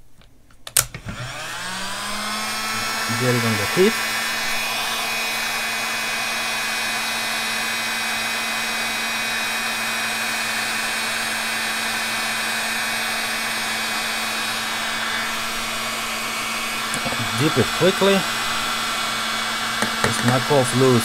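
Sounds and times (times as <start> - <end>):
heat gun blowing air: 0.9 - 21.0.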